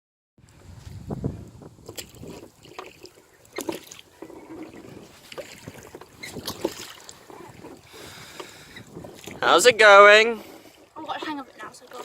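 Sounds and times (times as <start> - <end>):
water splashing: 1.8 - 12.0
oars clunking in rowlocks: 1.9 - 12.0.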